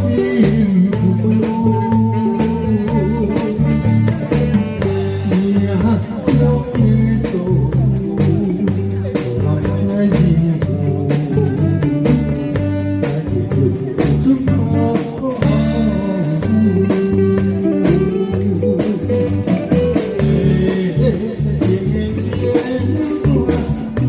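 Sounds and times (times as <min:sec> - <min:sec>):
guitar melody: 0:00.0 - 0:24.0
pulsing bass notes: 0:00.0 - 0:24.0
steady drum-kit beat: 0:00.0 - 0:24.0.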